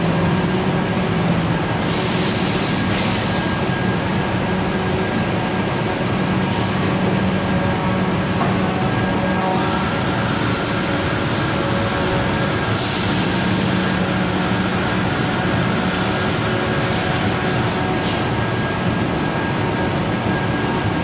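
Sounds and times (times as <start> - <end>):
cnc router machine drone: 0.0 - 21.0.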